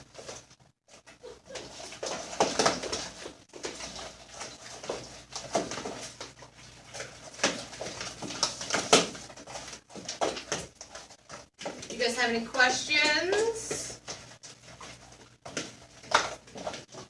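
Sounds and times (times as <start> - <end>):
slime squelching: 0.0 - 17.0.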